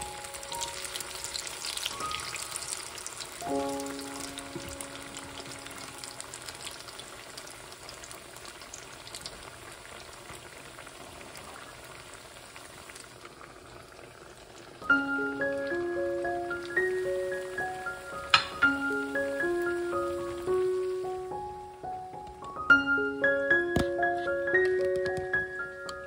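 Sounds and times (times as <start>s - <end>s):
oil sizzling and crackling: 0.0s - 22.8s.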